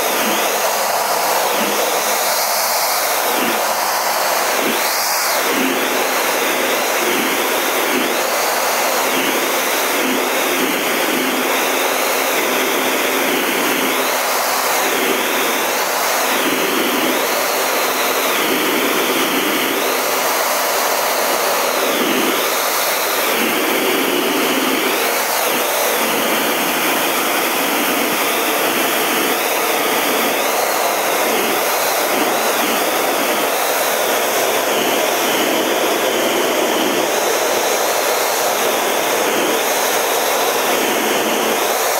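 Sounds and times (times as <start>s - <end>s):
jet engine and airflow rushing: 0.0s - 41.9s
wavering high whine: 0.0s - 41.9s.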